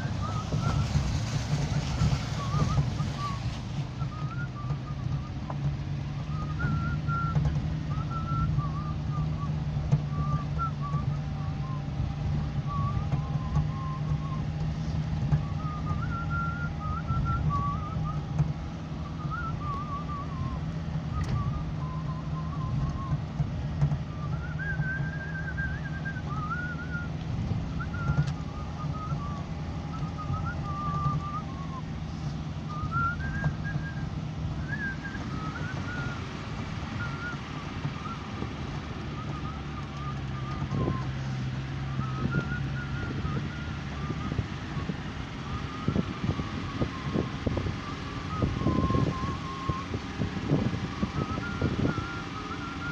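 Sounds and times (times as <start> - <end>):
person whistling a tune: 0.0 - 23.4, 24.0 - 52.9
vehicle rumbling on gravel: 0.0 - 52.9.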